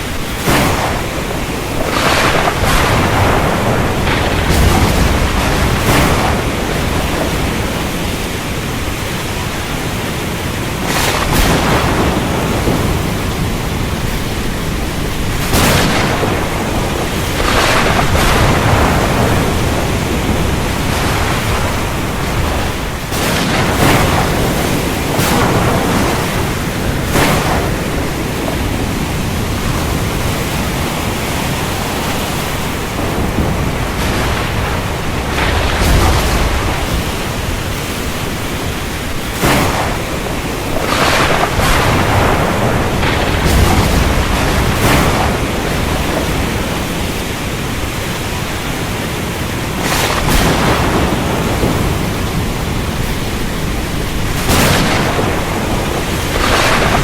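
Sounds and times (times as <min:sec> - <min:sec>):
sharp thunder cracks: 0:00.0 - 0:48.2, 0:49.6 - 0:57.0
heavy rain pouring: 0:00.0 - 0:57.0
deep rumble of thunder: 0:00.1 - 0:48.5, 0:49.6 - 0:57.0.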